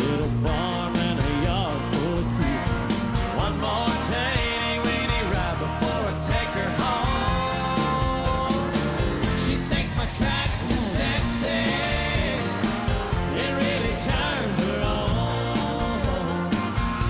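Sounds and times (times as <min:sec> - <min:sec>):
man singing: 0:00.0 - 0:16.7
country band playing: 0:00.0 - 0:17.0.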